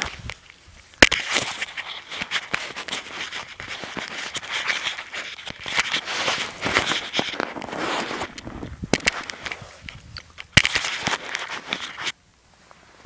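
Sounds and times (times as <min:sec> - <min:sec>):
camera handling rustling: 0:00.0 - 0:12.2
footsteps through dry grass: 0:00.0 - 0:13.0.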